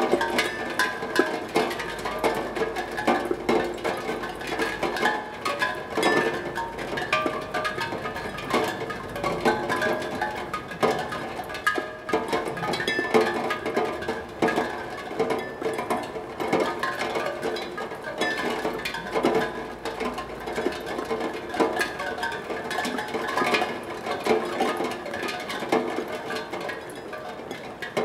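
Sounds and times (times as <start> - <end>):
raindrops on steel tongue drum: 0.0 - 28.0.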